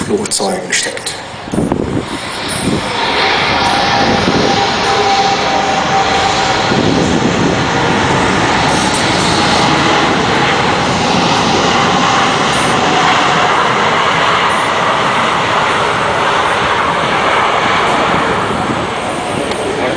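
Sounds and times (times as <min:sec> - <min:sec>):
faint jet engine whine: 0:00.0 - 0:19.9
jet engines rushing noise: 0:00.0 - 0:19.9.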